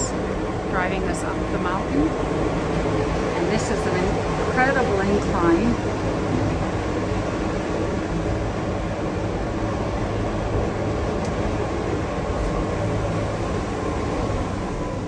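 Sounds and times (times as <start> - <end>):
train running noise with low hum: 0.0 - 15.0.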